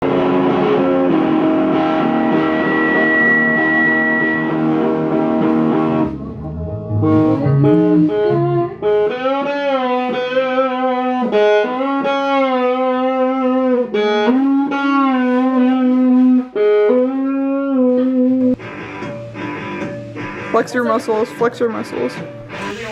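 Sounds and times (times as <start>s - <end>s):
electric guitar playing: 0.0s - 22.9s.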